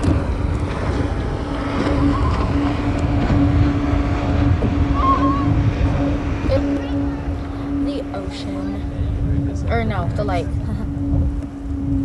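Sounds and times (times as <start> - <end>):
motorboat engine humming: 0.0 - 12.0
wind rumble on microphone: 0.0 - 12.0.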